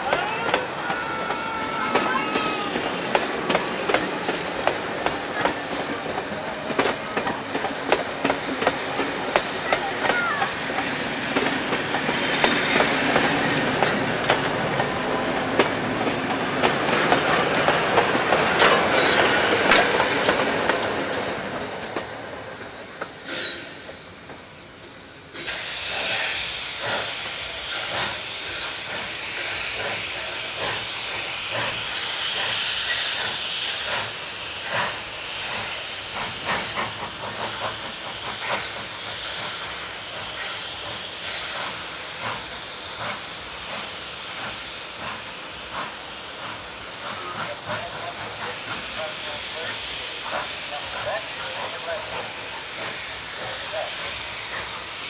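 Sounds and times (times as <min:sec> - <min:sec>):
steam hissing: 0:00.0 - 0:55.0
steam locomotive exhaust: 0:00.0 - 0:55.0
train wheels clicking over rail joints: 0:00.0 - 0:55.0.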